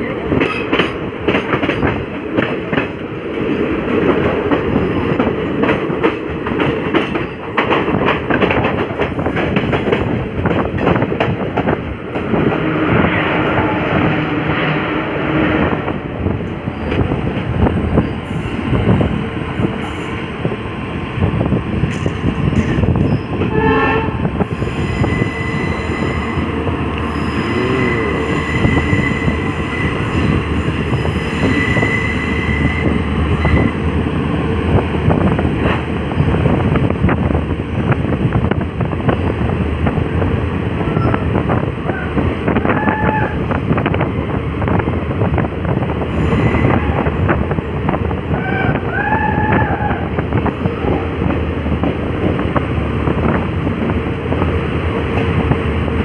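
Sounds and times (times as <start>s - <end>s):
train rumble and wind rush: 0.0s - 56.0s.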